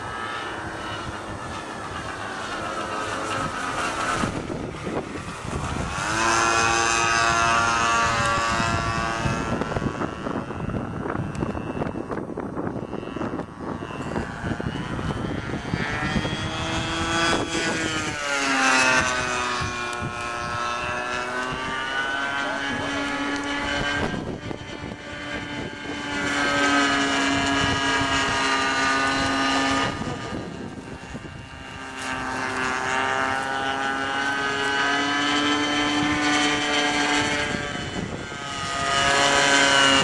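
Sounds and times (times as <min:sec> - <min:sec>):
model airplane engine whine: 0:00.0 - 0:40.0.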